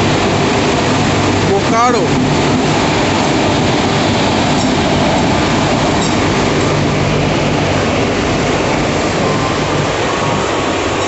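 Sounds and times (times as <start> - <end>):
diesel locomotive engine hum: 0.0 - 11.0
train wheels on rails: 2.0 - 11.0.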